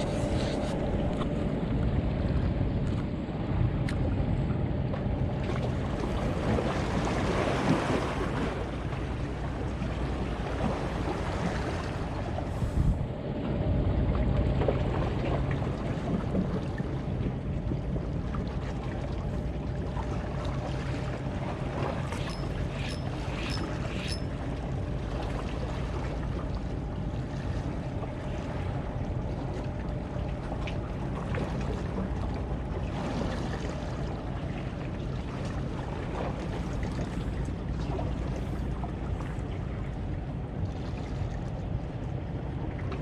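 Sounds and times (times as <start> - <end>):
boat engine humming: 0.0 - 43.0
water noise: 0.0 - 43.0
wind: 0.0 - 43.0.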